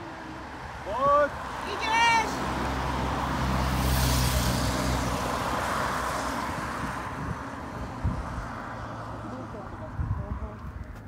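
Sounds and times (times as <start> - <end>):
car passing by: 0.0 - 10.9.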